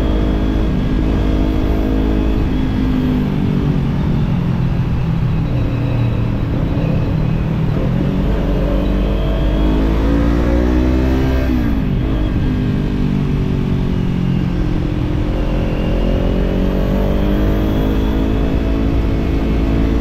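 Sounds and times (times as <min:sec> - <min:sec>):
motorcycle engine accelerating: 0:00.0 - 0:20.0
wind and road rumble: 0:00.0 - 0:20.0.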